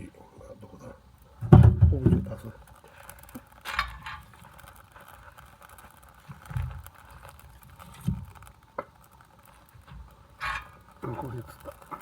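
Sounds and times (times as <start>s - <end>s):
kindling rustling: 0.8s - 12.0s.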